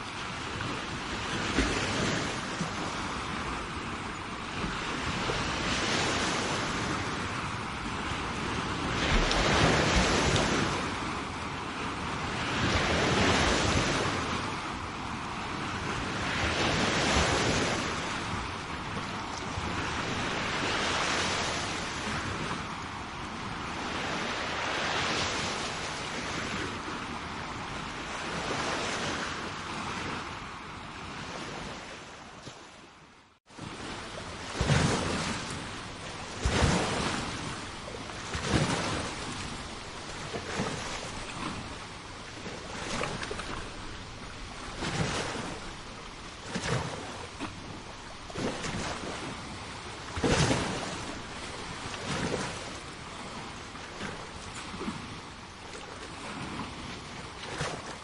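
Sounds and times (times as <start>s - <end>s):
sea waves washing onto shore: 0.0s - 32.8s, 33.4s - 58.0s.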